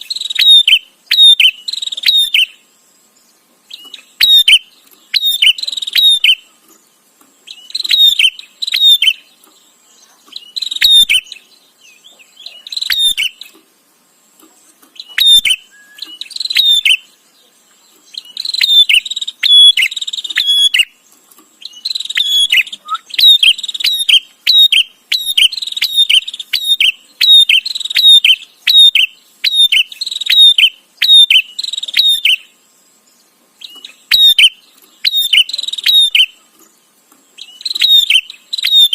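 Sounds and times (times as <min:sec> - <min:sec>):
bird chirping rapidly: 0:00.0 - 0:02.8, 0:03.6 - 0:13.6, 0:14.9 - 0:38.9.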